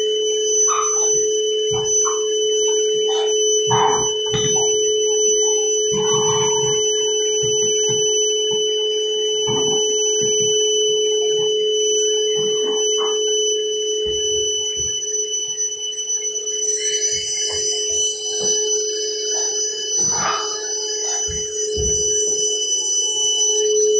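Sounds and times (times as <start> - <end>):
vacuum cleaner whining: 0.0 - 23.9.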